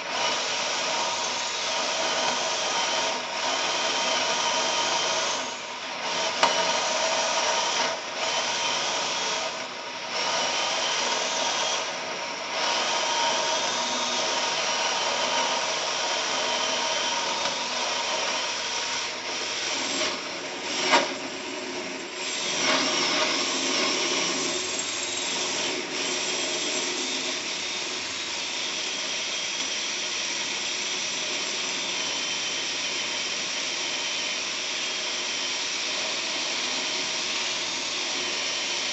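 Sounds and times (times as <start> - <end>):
electric drill whining into steel: 0.0 - 38.9.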